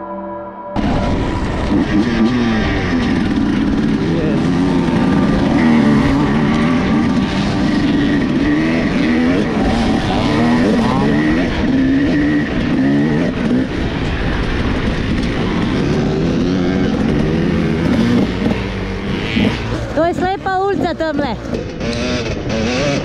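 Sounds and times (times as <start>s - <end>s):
dirt bike engine revving: 0.8s - 23.0s.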